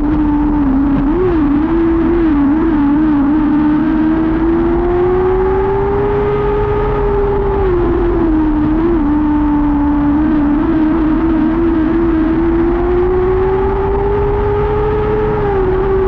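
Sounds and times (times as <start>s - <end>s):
sprint car engine running hard: 0.0s - 16.0s.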